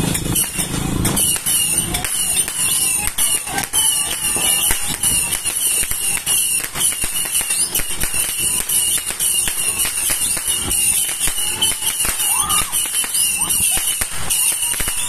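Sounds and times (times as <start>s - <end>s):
constant firework hiss: 0.0s - 15.0s
firework cake firing sharp pops: 0.0s - 15.0s.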